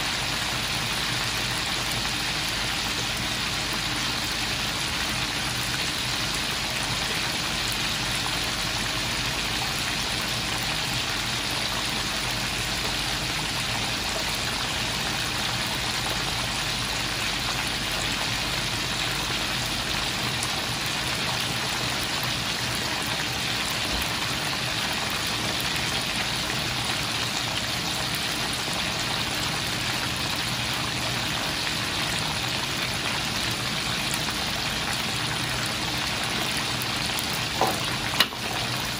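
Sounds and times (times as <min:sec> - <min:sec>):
hot oil sizzling and bubbling: 0:00.0 - 0:38.9.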